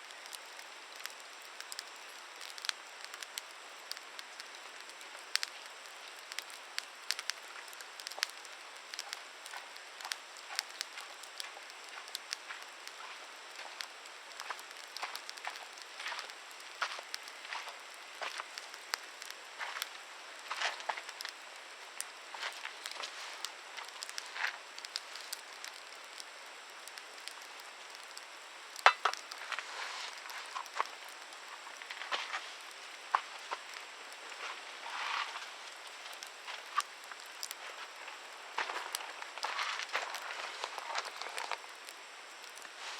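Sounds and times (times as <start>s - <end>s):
campfire crackling and popping: 0.0s - 42.9s
fire hissing: 0.0s - 42.9s.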